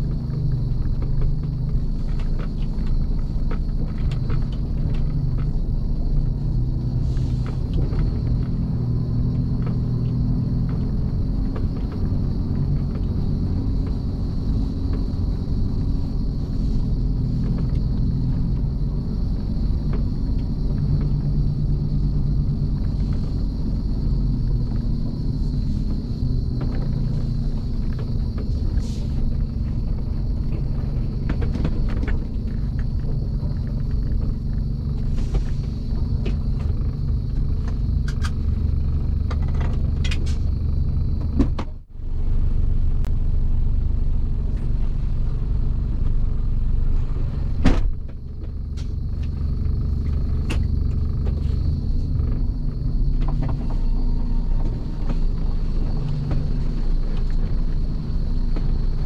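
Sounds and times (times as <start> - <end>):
cab knocks and rattles: 0.0 - 41.8, 44.2 - 59.0
truck engine running: 0.0 - 59.0.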